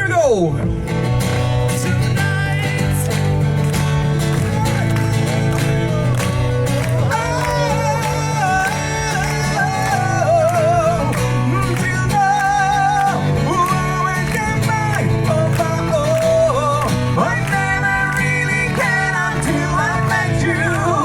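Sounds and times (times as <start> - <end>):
guitar accompaniment: 0.1 - 21.0.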